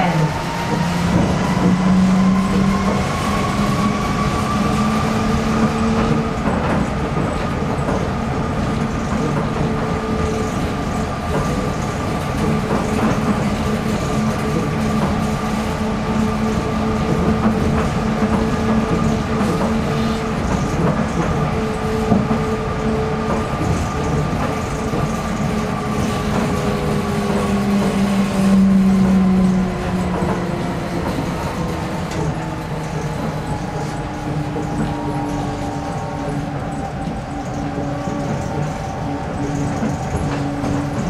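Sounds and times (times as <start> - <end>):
train rolling rumble: 0.0 - 41.0.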